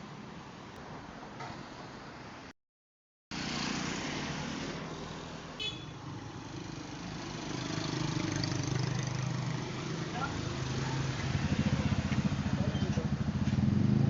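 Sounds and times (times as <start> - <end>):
road traffic noise: 0.0 - 2.6, 3.3 - 14.0.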